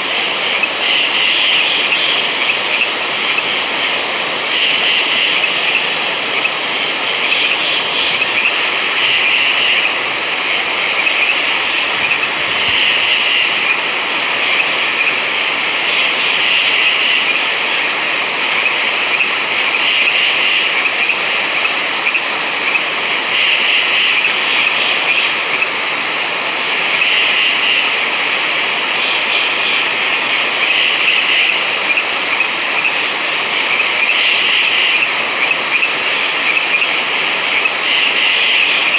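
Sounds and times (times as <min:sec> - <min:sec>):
constant hiss: 0:00.0 - 0:38.9
frogs trilling: 0:00.0 - 0:38.9.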